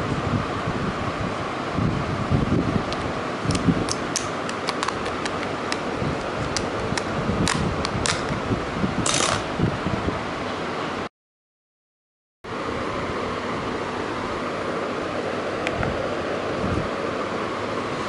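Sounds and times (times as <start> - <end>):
fan whir: 0.0 - 11.1, 12.4 - 18.0.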